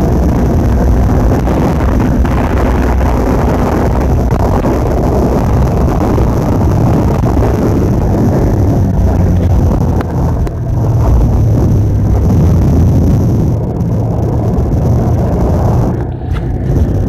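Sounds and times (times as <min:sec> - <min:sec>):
vehicle rumble: 0:00.0 - 0:17.0
wind buffeting microphone: 0:00.0 - 0:17.0.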